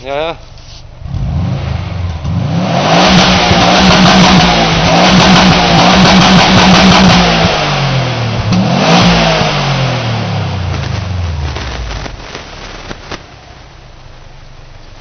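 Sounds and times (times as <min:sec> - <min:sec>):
car engine revving: 0:01.0 - 0:15.0.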